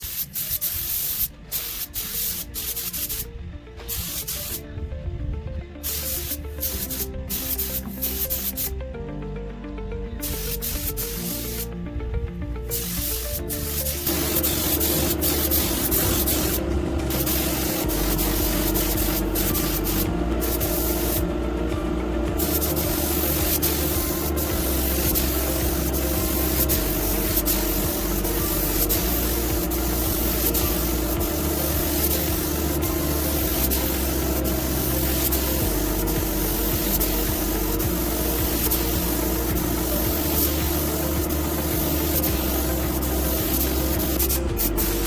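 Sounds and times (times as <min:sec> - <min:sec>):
hissing: 0:00.0 - 0:04.7, 0:05.8 - 0:08.8, 0:10.2 - 0:11.8, 0:12.6 - 0:45.0
background music with short notes: 0:00.0 - 0:45.0.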